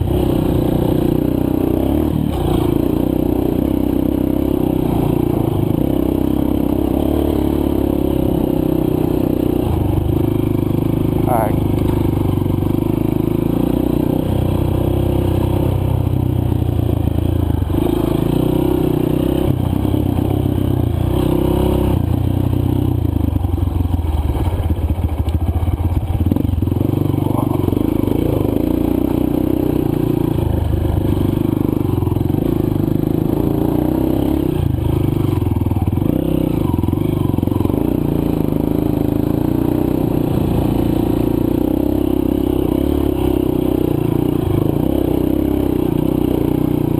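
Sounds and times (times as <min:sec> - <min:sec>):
dirt bike engine revving: 0:00.0 - 0:22.9, 0:26.1 - 0:46.9.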